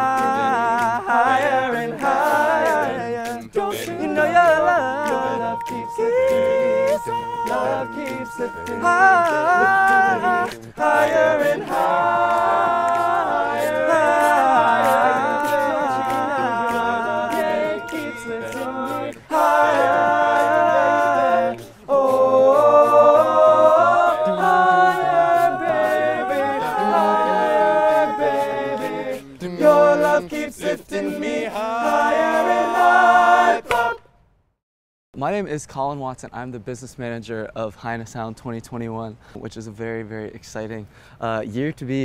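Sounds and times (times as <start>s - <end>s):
male a cappella group singing: 0.0s - 34.0s.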